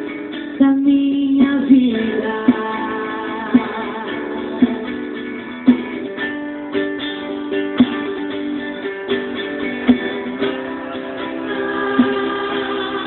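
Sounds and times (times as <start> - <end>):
guitars over a steady beat: 0.0 - 13.0.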